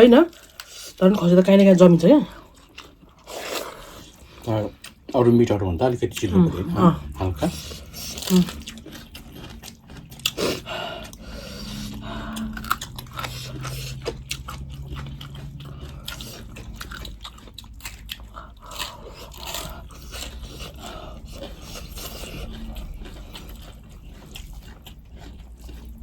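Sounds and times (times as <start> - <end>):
person chewing meat: 0.0 - 26.0.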